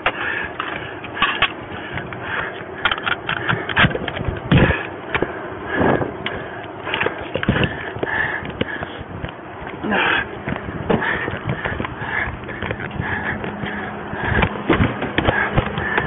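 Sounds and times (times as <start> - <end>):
heavy thumps: 0.0 - 16.0.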